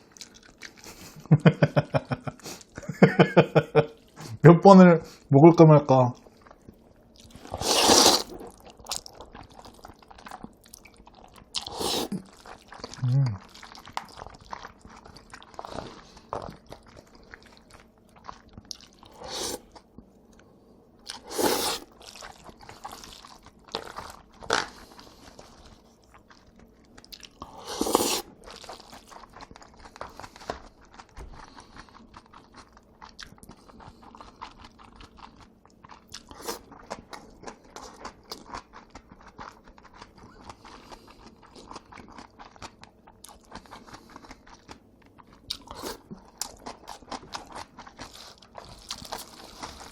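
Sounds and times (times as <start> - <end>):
noodles being chewed: 0.0 - 3.2, 6.1 - 49.9.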